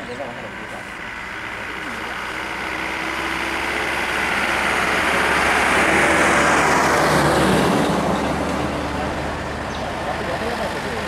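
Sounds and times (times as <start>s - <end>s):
truck passing by: 0.0s - 11.0s.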